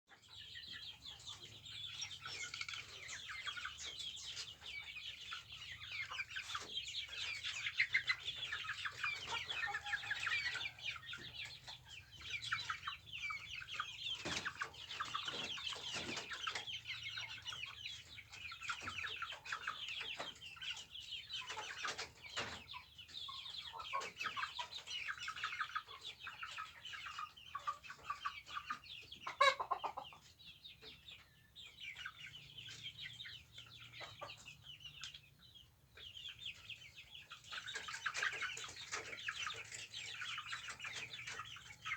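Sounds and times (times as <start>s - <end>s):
chicks peeping and cheeping: 0.1s - 41.9s.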